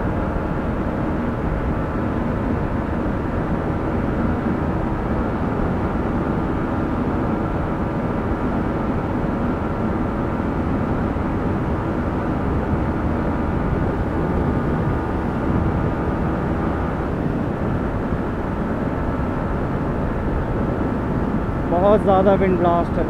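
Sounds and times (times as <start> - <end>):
motorcycle engine at speed: 0.0 - 23.0.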